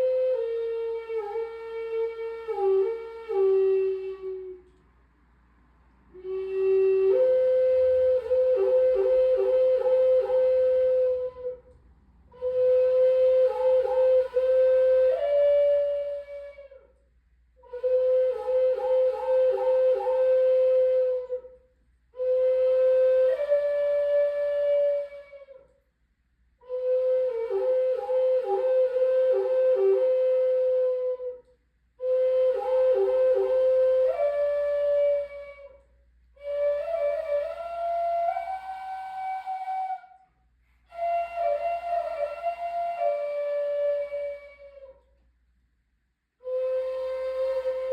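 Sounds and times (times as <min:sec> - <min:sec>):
solo flute playing: 0:00.0 - 0:04.8, 0:06.1 - 0:17.0, 0:17.6 - 0:25.8, 0:26.6 - 0:45.2, 0:46.4 - 0:47.9.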